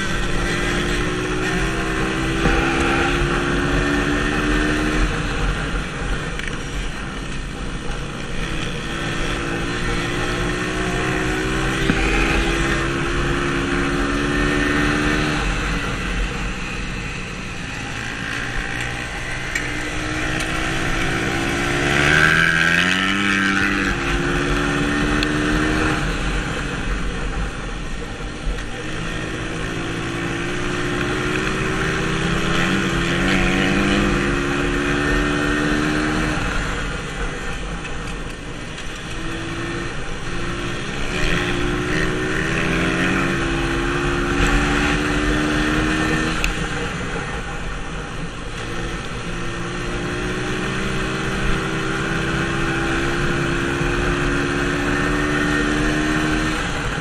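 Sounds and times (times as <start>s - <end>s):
dirt bike engine revving: 0.0s - 5.8s, 8.3s - 26.9s, 28.7s - 37.7s, 38.9s - 47.6s, 48.5s - 57.0s.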